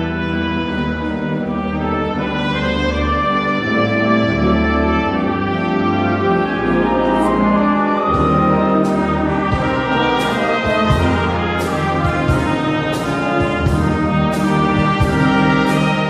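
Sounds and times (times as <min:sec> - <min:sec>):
brass and saxophones playing: 0:00.0 - 0:16.0.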